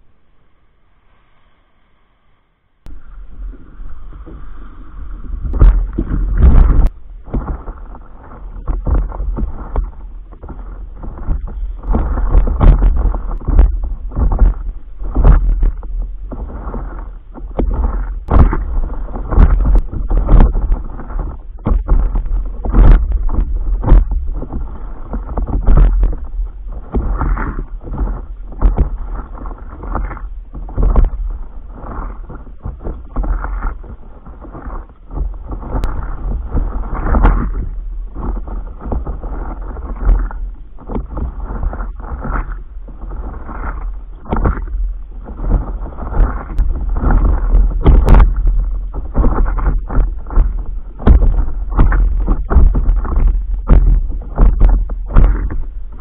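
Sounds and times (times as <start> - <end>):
wind rumbling on microphone: 2.8 - 56.0
water splashing against board: 2.9 - 56.0.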